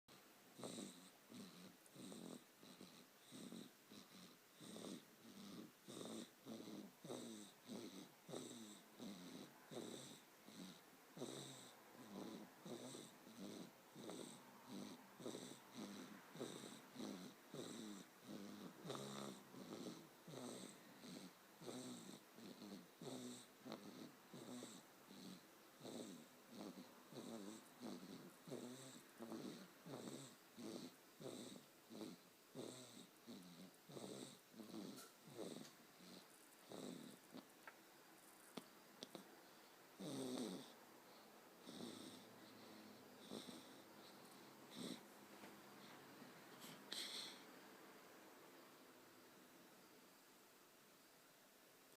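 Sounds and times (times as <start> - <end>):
fast short snores: 0.6 - 37.4, 40.0 - 45.1, 46.6 - 47.5.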